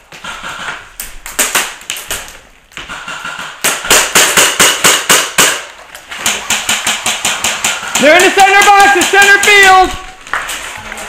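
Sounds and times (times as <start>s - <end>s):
airsoft rifle shots cracking: 0.2s - 9.9s.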